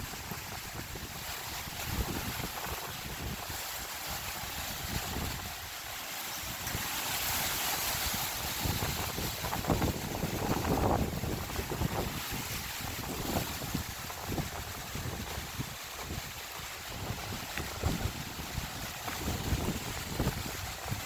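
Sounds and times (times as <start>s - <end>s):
wind buffeting microphone: 0.0s - 5.8s, 6.5s - 21.0s.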